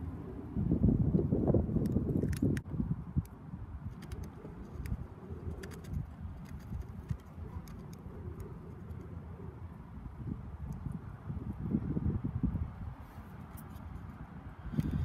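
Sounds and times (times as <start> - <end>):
wind buffeting microphone: 0.0 - 13.2, 13.8 - 15.0.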